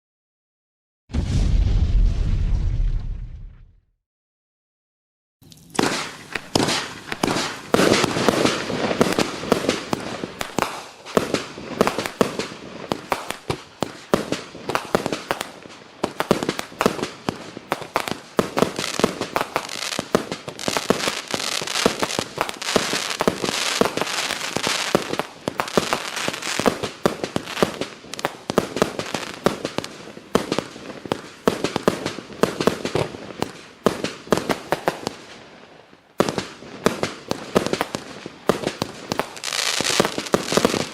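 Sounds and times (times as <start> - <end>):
firework cake firing: 5.4 - 35.2, 36.2 - 40.9.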